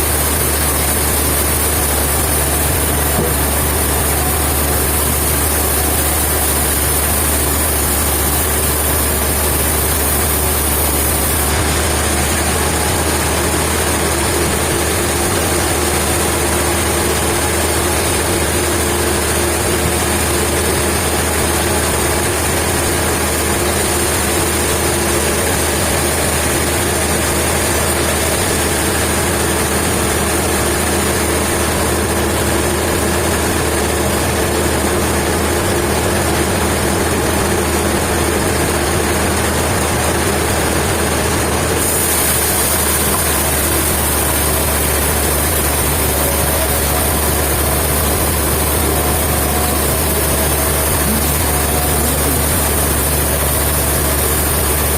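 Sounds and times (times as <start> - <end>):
heavy engine running: 0.0 - 54.9.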